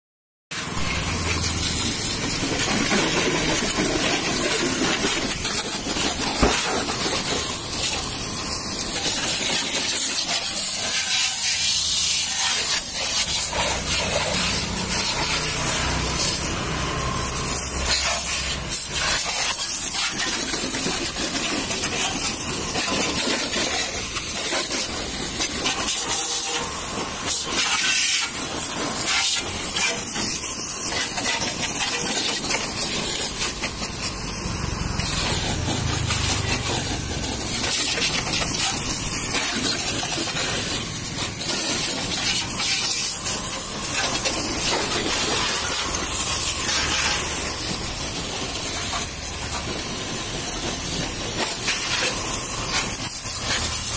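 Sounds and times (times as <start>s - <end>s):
pressure washer jet hissing: 0.6s - 53.9s
water splashing on concrete: 0.6s - 53.9s.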